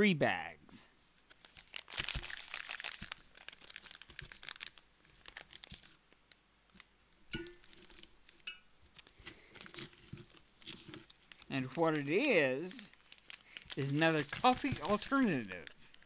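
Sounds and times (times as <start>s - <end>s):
plastic bag crinkling: 1.3s - 6.0s, 7.6s - 16.0s.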